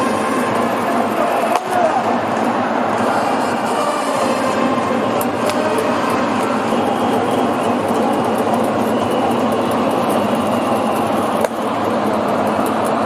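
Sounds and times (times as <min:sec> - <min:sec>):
crowd murmur: 0:00.0 - 0:13.0
hall noise: 0:00.0 - 0:13.0.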